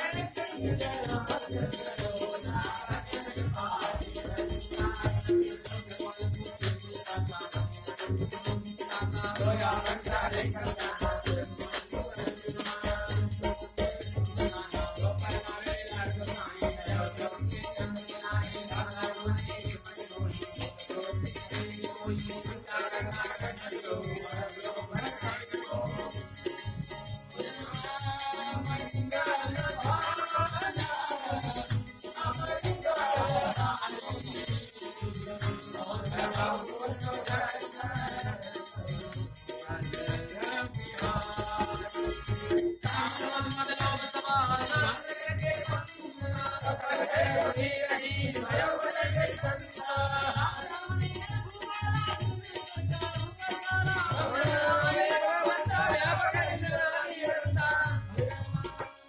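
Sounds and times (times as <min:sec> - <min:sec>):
devotional singing: 0:00.0 - 0:07.7, 0:08.8 - 0:13.7, 0:14.4 - 0:19.7, 0:20.8 - 0:26.4, 0:27.4 - 0:58.8
steady drum beat: 0:00.0 - 0:56.8
jingling rattling percussion: 0:00.0 - 0:59.0.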